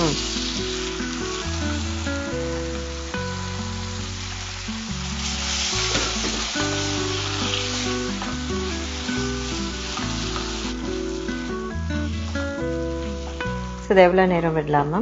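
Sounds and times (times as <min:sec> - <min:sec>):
food sizzling in a frying pan: 0:00.0 - 0:14.4
background music: 0:00.0 - 0:15.0.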